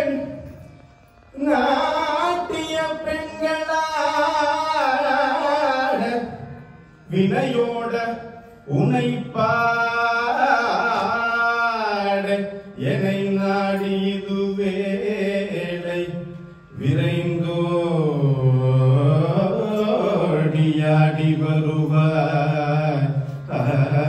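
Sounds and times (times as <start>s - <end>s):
man singing into a microphone: 0.0s - 0.6s, 1.3s - 24.0s.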